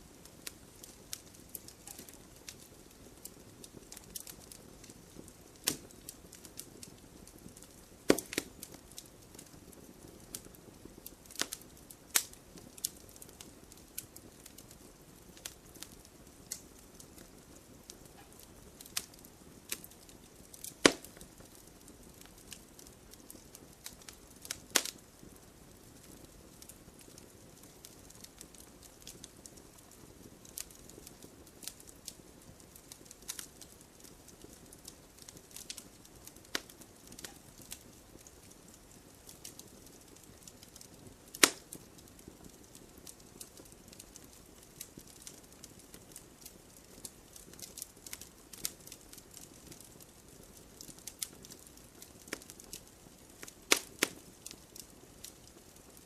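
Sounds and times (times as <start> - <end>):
campfire crackling and popping: 0.0 - 56.0
soft steady fire hiss: 0.0 - 56.0.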